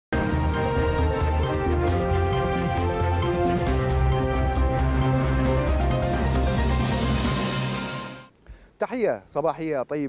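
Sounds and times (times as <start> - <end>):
tv theme music: 0.1 - 8.3.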